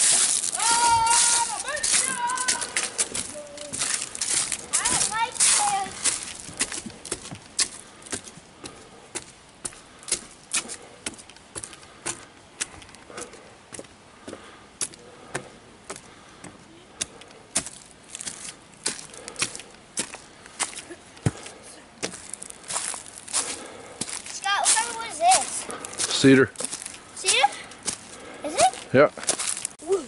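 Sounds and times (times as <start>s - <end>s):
footsteps on wooden stairs and leaves: 0.0s - 30.0s.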